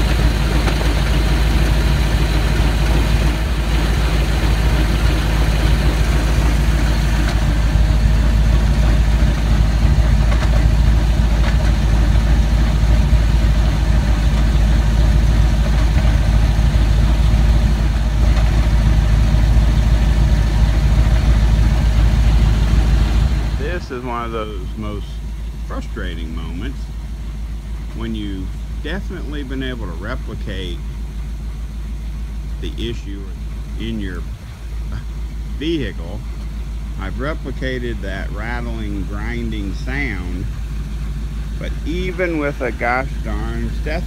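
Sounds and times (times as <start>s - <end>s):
car engine running: 0.0s - 44.0s
driveline rattling and grinding: 0.0s - 44.0s.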